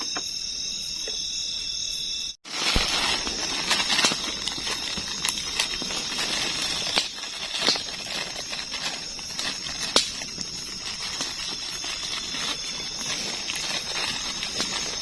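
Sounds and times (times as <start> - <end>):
night insects trilling: 0.0 - 15.0
small crackles and clicks: 2.6 - 15.0.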